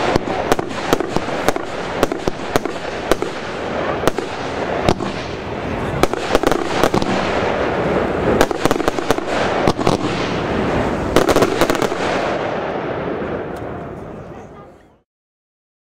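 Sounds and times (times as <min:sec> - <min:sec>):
firework bangs: 0:00.0 - 0:14.5
firework crackle: 0:00.0 - 0:14.6.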